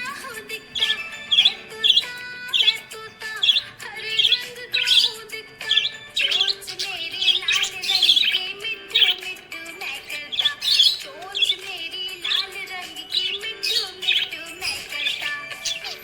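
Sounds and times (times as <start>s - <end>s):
background music: 0.0s - 16.0s
budgerigar chirping: 0.0s - 16.0s.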